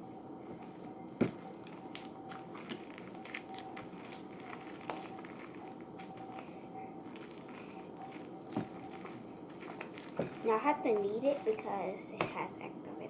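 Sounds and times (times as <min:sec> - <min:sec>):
slime squishing: 0:00.4 - 0:12.5.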